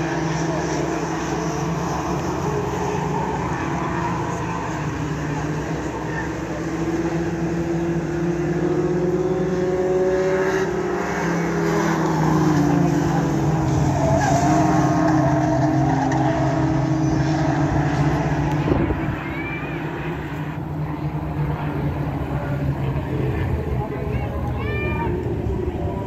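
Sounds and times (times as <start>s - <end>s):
racing truck engines: 0.0s - 26.0s.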